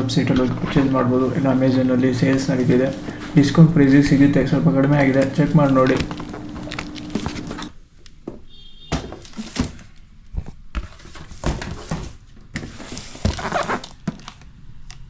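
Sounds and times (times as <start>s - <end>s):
packaging knocks rustles and scrapes: 0.0s - 7.7s, 9.1s - 14.4s.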